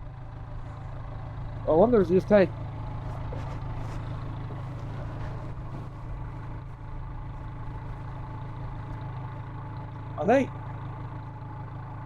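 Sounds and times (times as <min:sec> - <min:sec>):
sawmill engine idling: 0:00.0 - 0:12.0.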